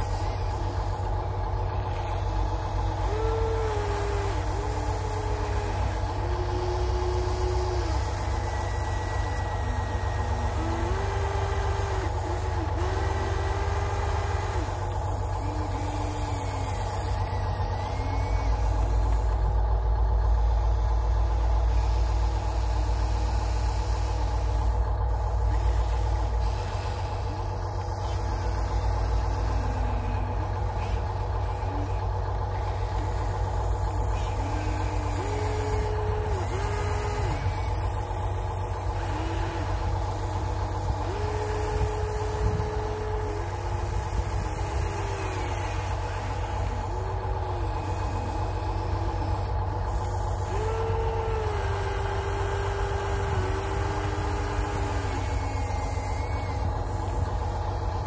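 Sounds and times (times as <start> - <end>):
electric motors whining: 0.0 - 58.0
steady low hum: 0.0 - 58.0.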